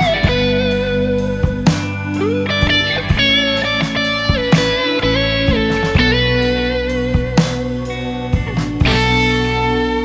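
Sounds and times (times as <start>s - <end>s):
electric guitar notes: 0.0s - 10.0s
guitar string bend: 0.0s - 10.0s.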